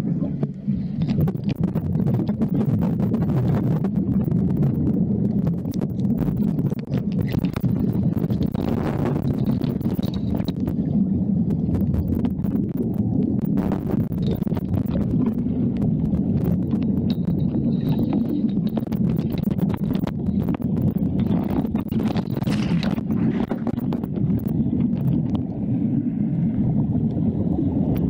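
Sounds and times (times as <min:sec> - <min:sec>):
muffled underwater rumble: 0:00.0 - 0:28.0
clicks and crackles: 0:00.1 - 0:25.6, 0:27.0 - 0:28.0.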